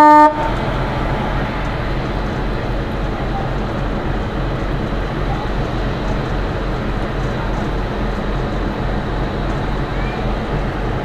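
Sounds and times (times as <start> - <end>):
ship engines rumbling: 0.0 - 11.0.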